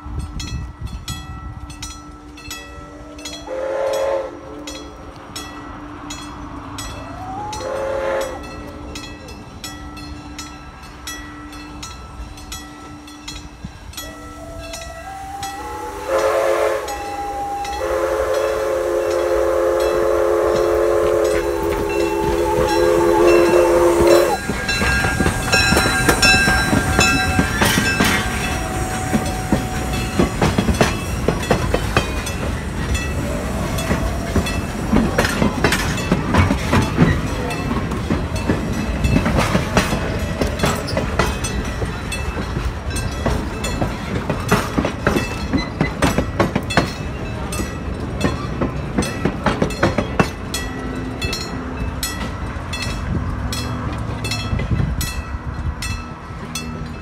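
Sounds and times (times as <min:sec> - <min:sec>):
train wheels clicking over rail joints: 0:00.1 - 0:57.0.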